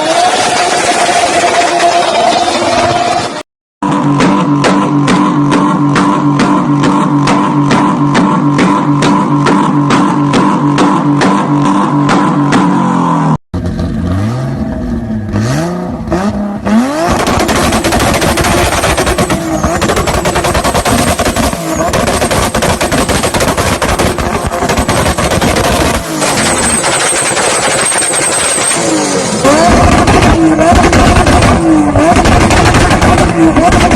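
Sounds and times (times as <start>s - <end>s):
car engine revving: 0.0s - 33.9s
exhaust crackling and popping: 3.8s - 12.8s, 13.6s - 33.9s.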